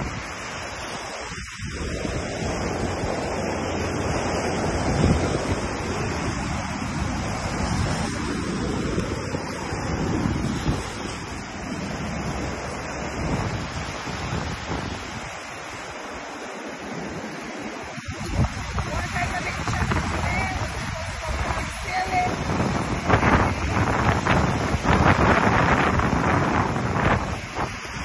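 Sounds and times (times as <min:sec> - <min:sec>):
surf washing onto beach: 0:00.0 - 0:28.0
wind buffeting microphone: 0:00.0 - 0:28.0.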